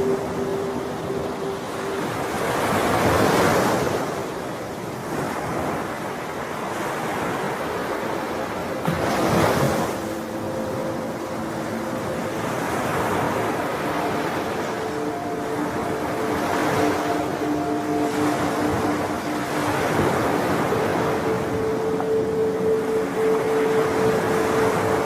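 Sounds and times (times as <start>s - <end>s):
faint sustained music notes: 0.0s - 25.0s
ocean waves washing ashore: 0.0s - 25.0s.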